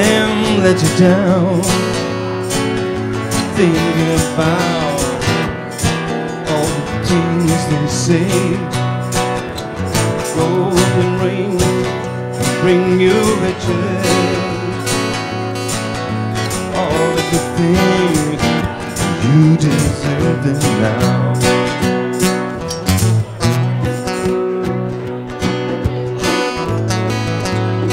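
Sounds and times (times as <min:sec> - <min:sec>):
acoustic guitars strumming: 0:00.0 - 0:27.9.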